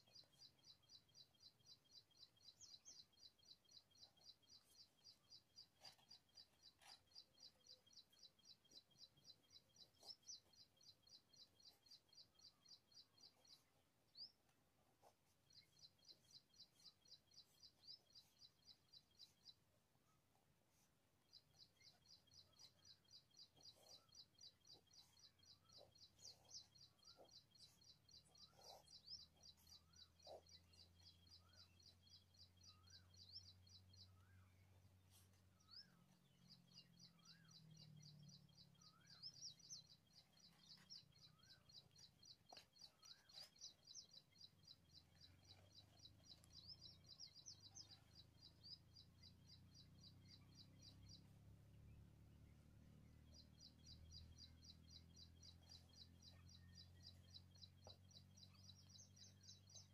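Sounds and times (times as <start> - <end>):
rapid high bird chirps: 0.0 - 14.4, 15.0 - 19.6, 21.2 - 59.9.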